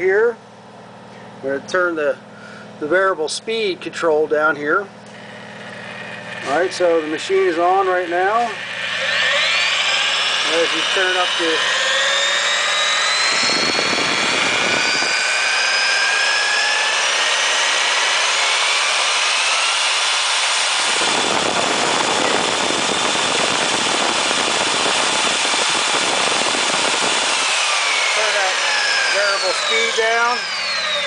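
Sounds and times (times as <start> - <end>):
drill press motor whining: 5.0 - 31.0.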